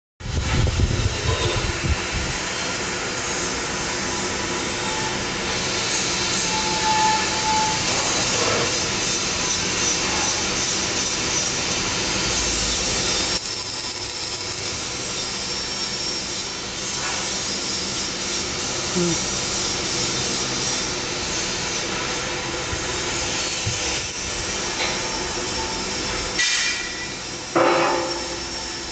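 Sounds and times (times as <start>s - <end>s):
workshop machine hum and hiss: 0.2s - 28.9s.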